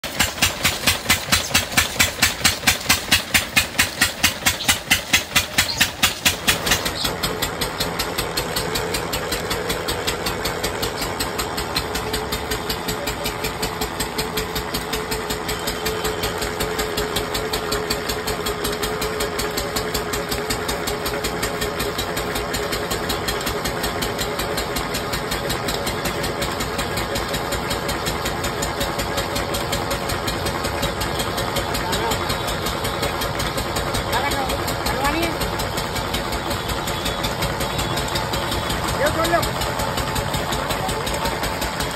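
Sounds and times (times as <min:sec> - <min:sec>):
machine knocking loudly: 0:00.0 - 0:41.9
quieter machine running: 0:00.0 - 0:41.9.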